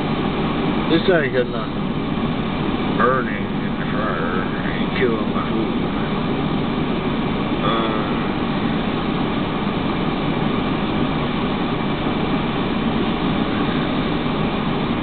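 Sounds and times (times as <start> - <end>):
loud rumbling noise: 0.0 - 15.0.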